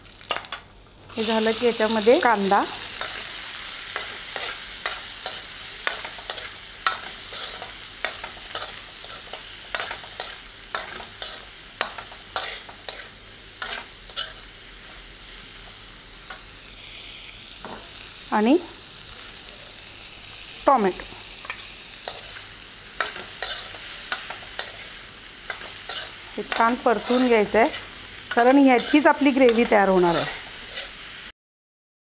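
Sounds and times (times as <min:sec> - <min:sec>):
onion and spices sizzling in oil: 0:00.0 - 0:31.3.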